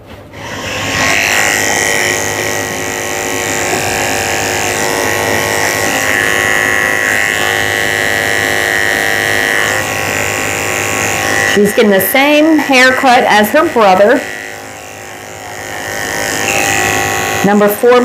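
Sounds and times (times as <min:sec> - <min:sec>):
electric clippers whining: 0:00.3 - 0:18.0.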